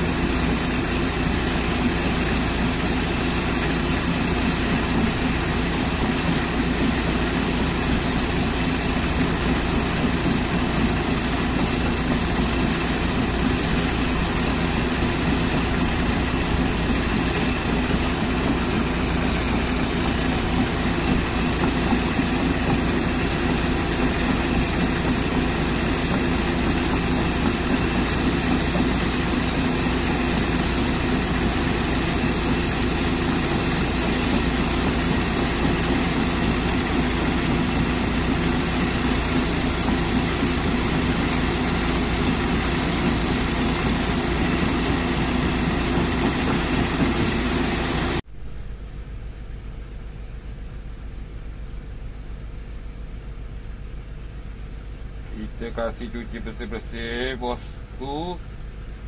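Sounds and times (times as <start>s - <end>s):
pressure washer jet hissing on metal: 0.0s - 48.2s
engine idling: 0.0s - 59.0s.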